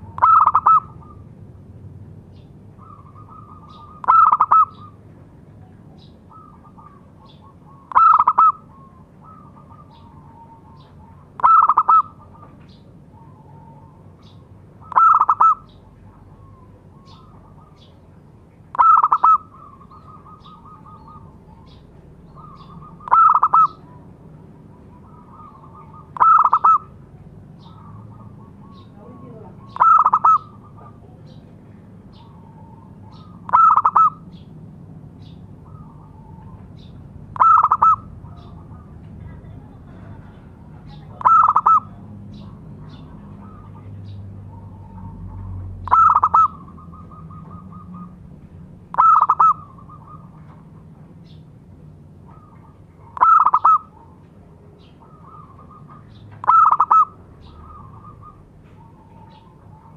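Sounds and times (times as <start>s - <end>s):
dove cooing: 0.0s - 1.3s, 2.8s - 5.0s, 5.6s - 18.1s, 18.7s - 31.4s, 32.1s - 34.4s, 35.5s - 51.0s, 52.2s - 59.9s.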